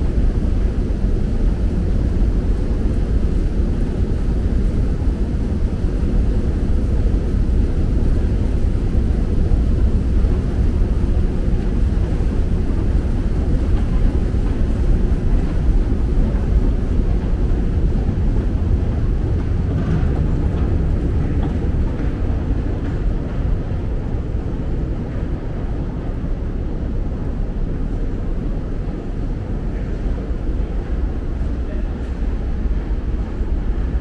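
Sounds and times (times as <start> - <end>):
escalator machinery rumble: 0.0 - 34.0
ventilation noise: 0.0 - 34.0.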